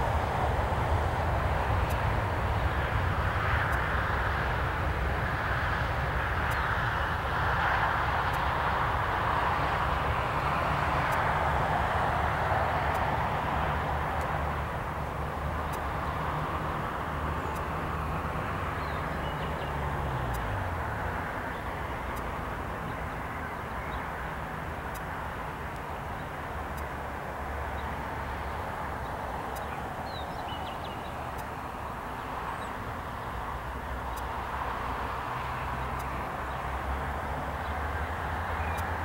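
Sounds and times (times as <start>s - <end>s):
distant jet engine roar: 0.0s - 39.0s.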